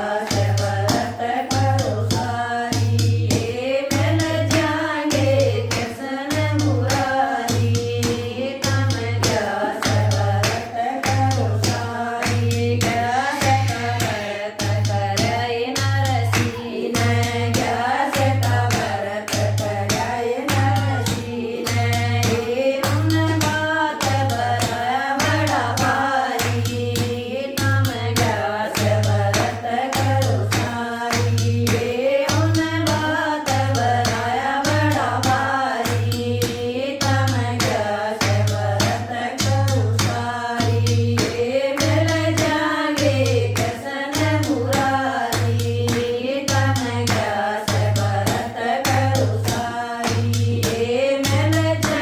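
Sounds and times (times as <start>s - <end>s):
hand clapping: 0.0s - 52.0s
hand drum beat: 0.0s - 52.0s
women singing together: 0.0s - 52.0s.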